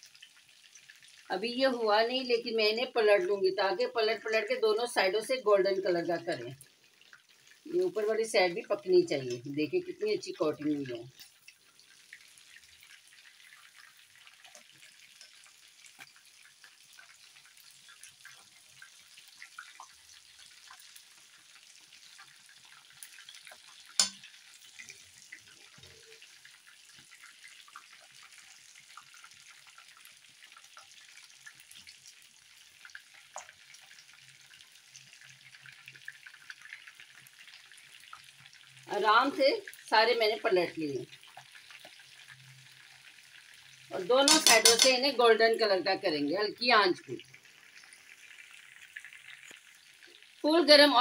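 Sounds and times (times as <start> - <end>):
chicken frying in hot oil: 0.0 - 51.0.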